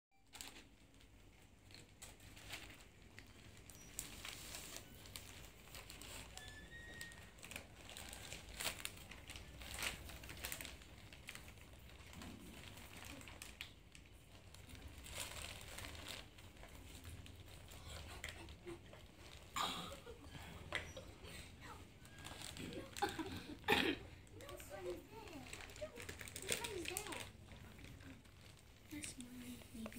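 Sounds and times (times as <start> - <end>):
newspaper and plastic crinkling: 0.2 - 29.9.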